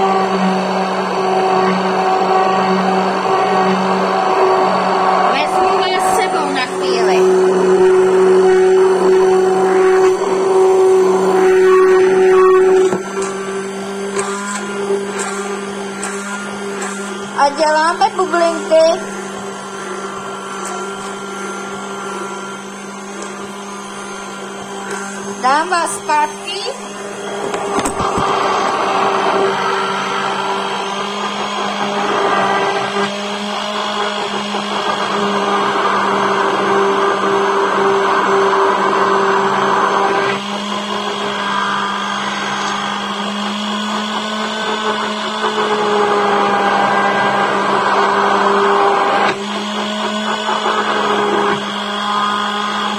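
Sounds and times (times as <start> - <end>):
immersion blender humming: 0.0 - 52.9.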